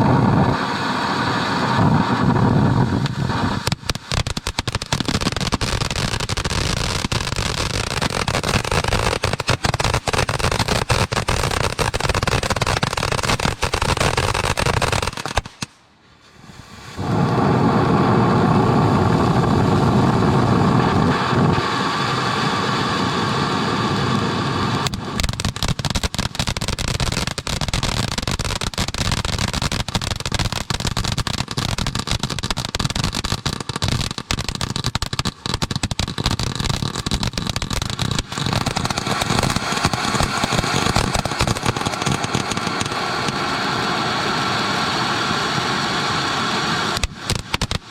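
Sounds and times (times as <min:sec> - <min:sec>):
fireworks crackling and popping: 0:00.0 - 0:47.9.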